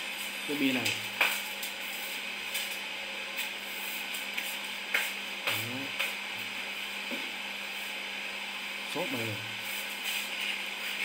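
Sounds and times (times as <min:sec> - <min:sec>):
background hiss and hum: 0:00.0 - 0:11.0.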